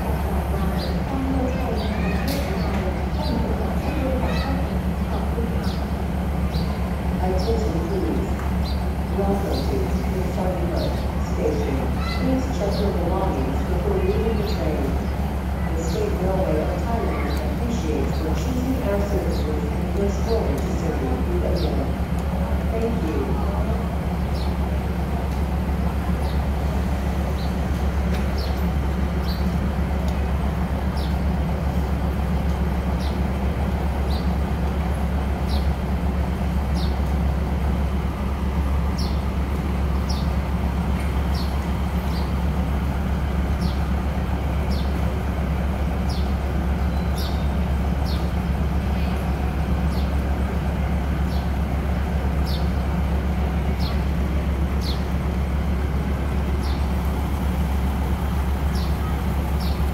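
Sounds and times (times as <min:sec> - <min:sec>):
diesel train engine idling: 0:00.0 - 0:59.9.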